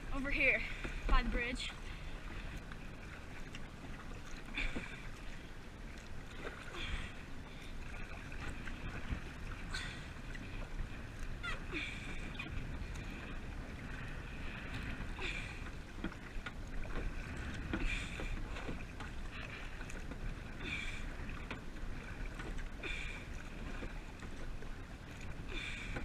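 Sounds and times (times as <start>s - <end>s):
paddle splashing water: 0.0s - 26.0s
wind on microphone: 0.0s - 26.0s.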